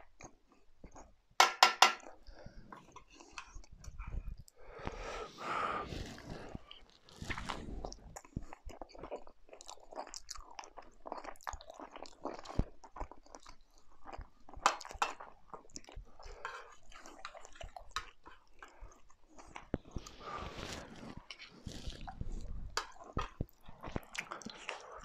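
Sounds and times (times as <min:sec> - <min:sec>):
man chewing food: 0:00.0 - 0:01.4, 0:02.0 - 0:25.0.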